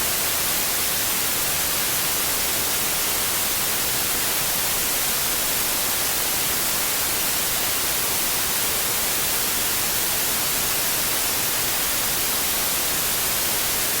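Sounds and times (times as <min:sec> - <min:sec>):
steady white noise hiss: 0:00.0 - 0:14.0.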